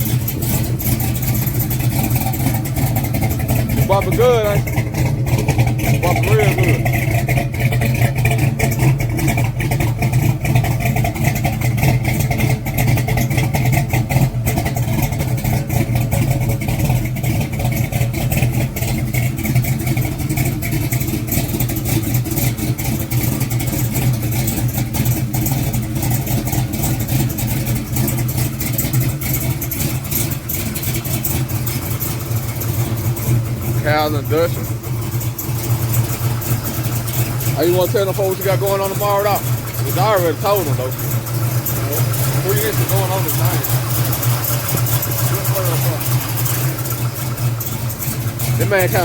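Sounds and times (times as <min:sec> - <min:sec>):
engine running with choppy exhaust: 0:00.0 - 0:49.0.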